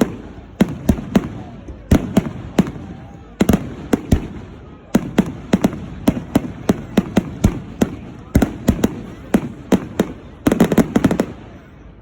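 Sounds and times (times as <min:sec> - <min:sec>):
fireworks bangs: 0:00.0 - 0:11.8.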